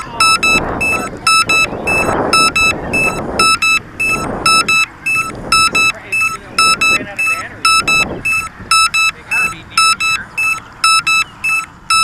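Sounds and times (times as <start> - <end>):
rapid high alarm beeps: 0.0 - 12.0.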